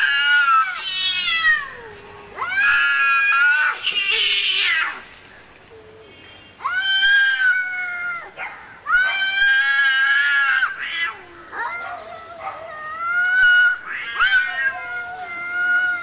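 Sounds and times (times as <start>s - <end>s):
cat yowling: 0.0s - 5.0s, 6.6s - 16.0s.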